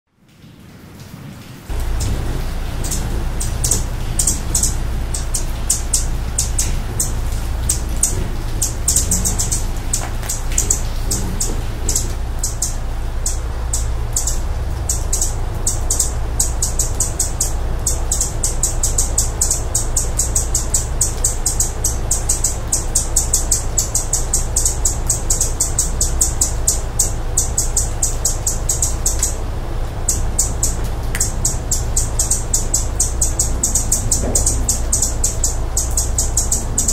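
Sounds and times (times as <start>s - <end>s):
hummingbird chirping: 1.7s - 36.9s
steady low hum: 1.7s - 36.9s.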